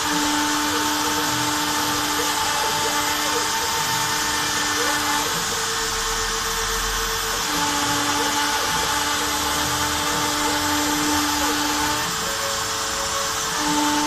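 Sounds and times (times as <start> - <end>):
motors humming: 0.0 - 14.0
router spindle hissing: 0.0 - 14.0.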